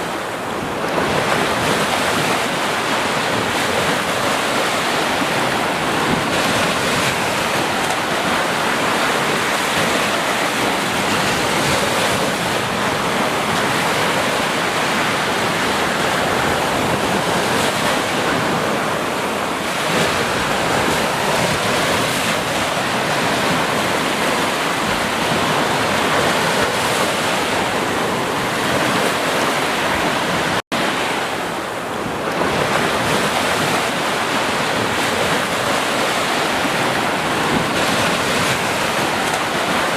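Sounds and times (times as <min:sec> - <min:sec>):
ocean surf washing on beach: 0:00.0 - 0:39.9.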